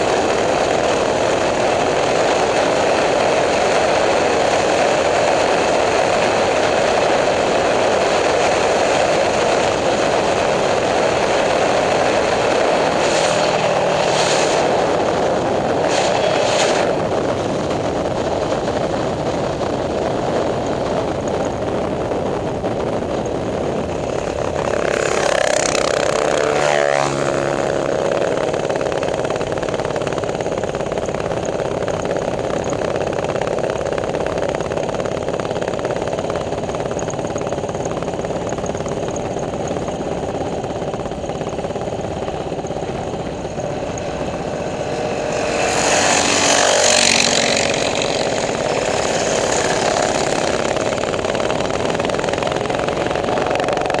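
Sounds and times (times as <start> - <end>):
minibike engine running: 0.0 - 54.0
small engine passing by: 0.0 - 54.0
wind rush: 0.0 - 54.0.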